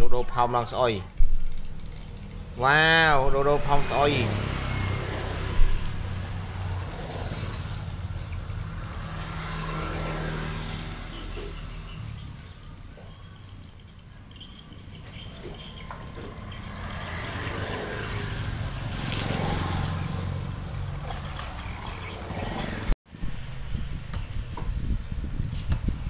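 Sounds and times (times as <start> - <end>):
motor vehicle passing: 0.9 - 26.0.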